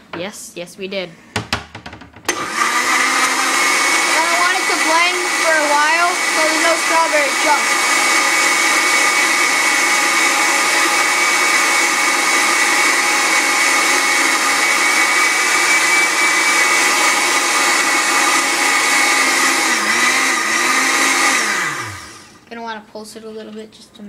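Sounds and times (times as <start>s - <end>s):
blender motor whining: 2.3s - 22.4s
liquid rushing in blender: 2.3s - 22.4s.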